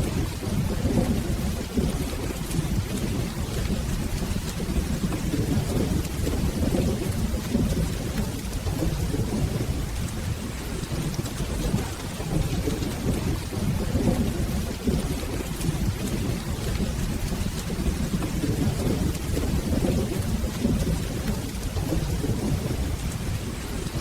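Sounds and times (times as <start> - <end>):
rolling thunder rumble: 0.0 - 24.0
steady rain: 0.0 - 24.0.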